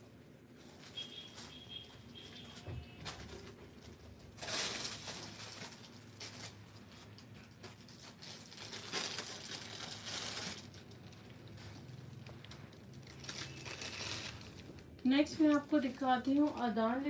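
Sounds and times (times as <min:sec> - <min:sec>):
fabric and card rustling: 0:00.5 - 0:17.0.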